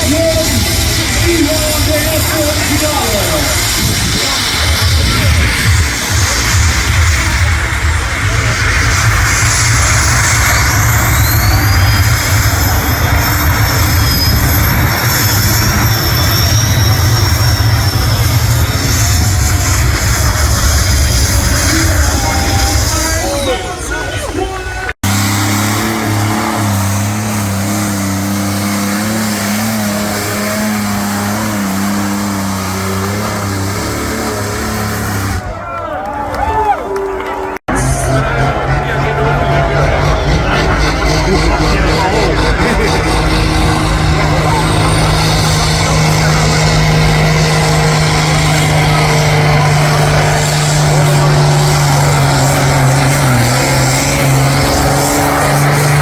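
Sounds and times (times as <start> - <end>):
loud tractor engine running: 0.0 - 35.6, 37.6 - 56.0.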